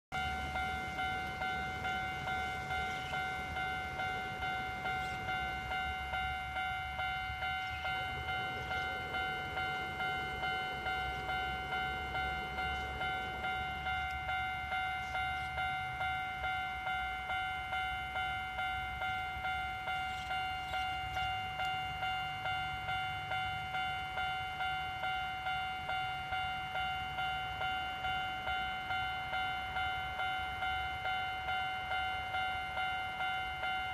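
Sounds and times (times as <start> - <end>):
level crossing bell ringing: 0.1 - 33.9.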